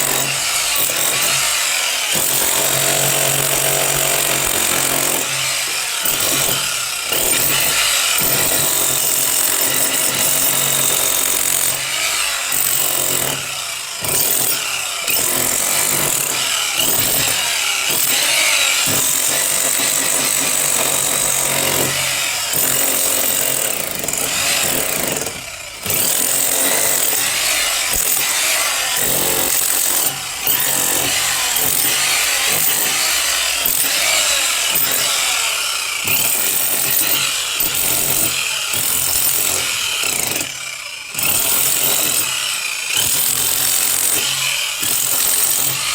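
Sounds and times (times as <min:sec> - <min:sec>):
power tool running under load: 0:00.0 - 0:45.9.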